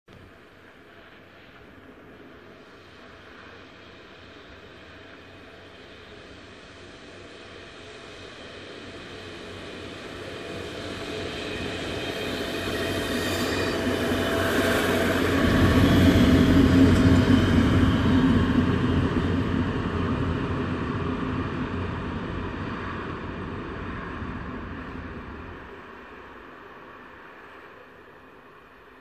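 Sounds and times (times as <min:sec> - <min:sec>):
diesel train engine passing: 0:03.8 - 0:29.0.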